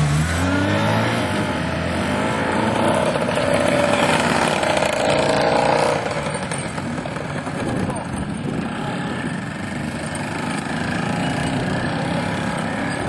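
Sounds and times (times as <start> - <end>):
motorcycle accelerating past: 0.0 - 13.0.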